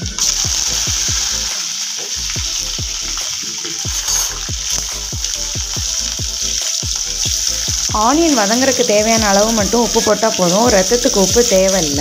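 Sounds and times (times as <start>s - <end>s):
background music beat: 0.0s - 12.0s
food sizzling in hot oil: 0.0s - 12.0s.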